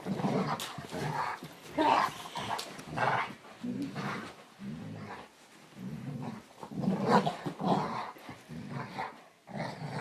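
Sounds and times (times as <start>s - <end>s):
dog growling: 0.0s - 10.0s.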